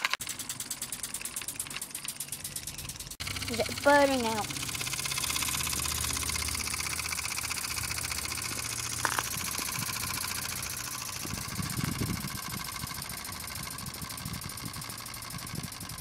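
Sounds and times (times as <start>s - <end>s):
model steam engine pulsing: 0.0s - 16.0s.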